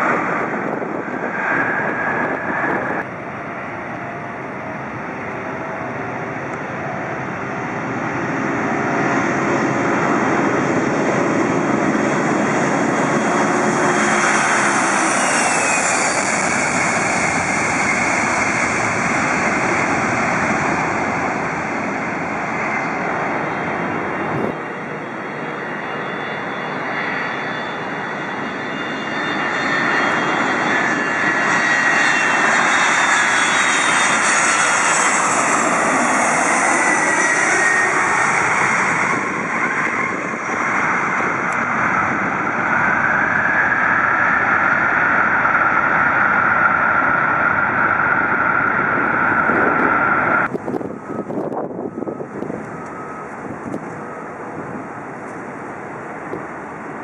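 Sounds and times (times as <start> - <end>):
jet engines at takeoff: 0.0 - 57.0
jet engines on landing approach: 0.0 - 57.0.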